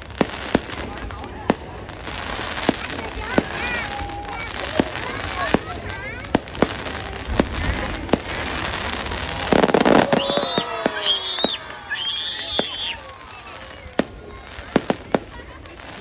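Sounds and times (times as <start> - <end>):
fireworks bangs: 0.0 - 16.0
fireworks crackling: 0.0 - 16.0
fireworks whistling: 2.0 - 15.2.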